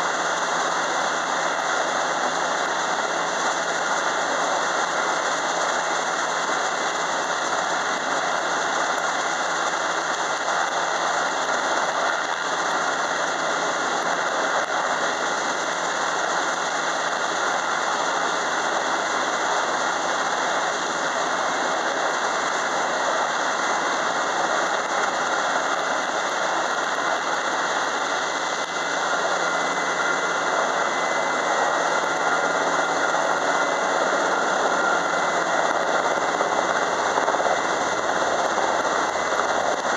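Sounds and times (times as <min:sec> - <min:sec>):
helicopter turbine and rotors: 0:00.0 - 0:39.9.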